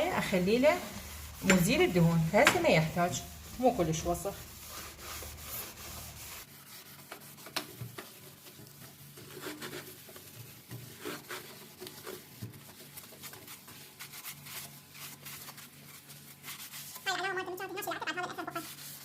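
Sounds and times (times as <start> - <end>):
sponge scrubbing stove top: 0.0 - 19.0.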